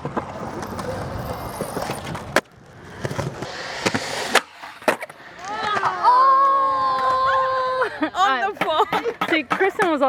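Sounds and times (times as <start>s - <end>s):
skateboard clack: 0.0s - 7.6s, 8.2s - 10.0s
skateboard wheels rolling: 0.0s - 10.0s.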